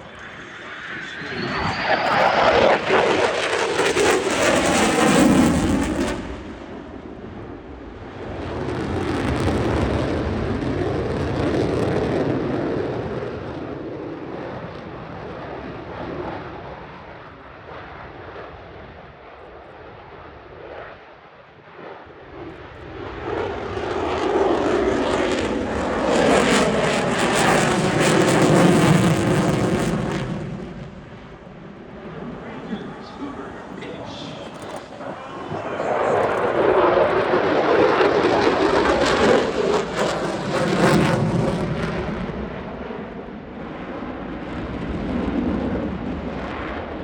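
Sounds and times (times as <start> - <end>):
aircraft engine roar: 0.0 - 47.0.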